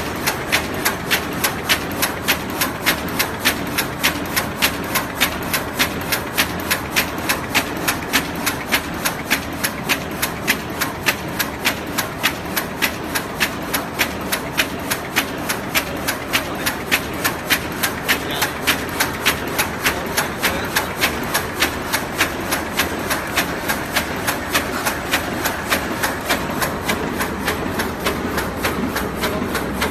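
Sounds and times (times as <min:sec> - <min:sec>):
machine rapid clacking: 0:00.0 - 0:29.9
mechanical running noise: 0:00.0 - 0:29.9.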